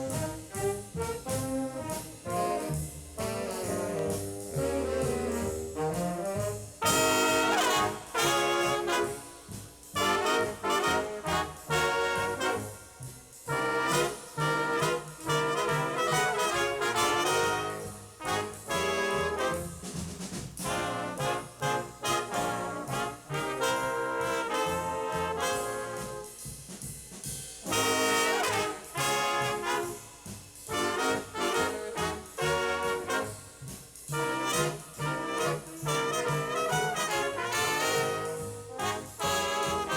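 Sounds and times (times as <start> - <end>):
jazz band playing: 0.0 - 39.9
trumpets and trombones: 0.0 - 39.9.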